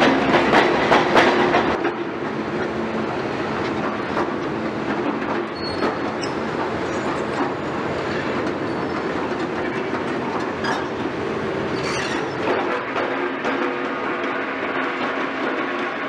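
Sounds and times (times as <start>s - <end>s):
excavator diesel engine running: 0.0s - 15.8s.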